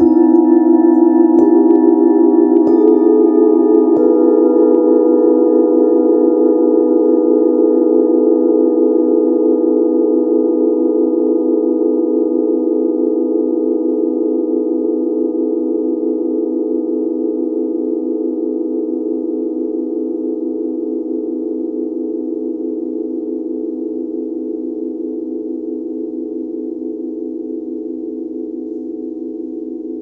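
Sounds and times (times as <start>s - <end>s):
singing bowls ringing: 0.0s - 30.0s.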